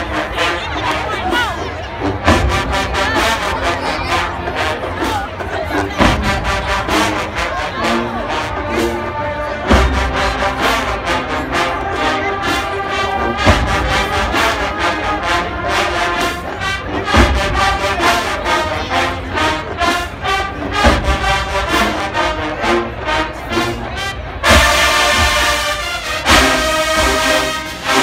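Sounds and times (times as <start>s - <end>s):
marching band brass: 0.0s - 28.0s.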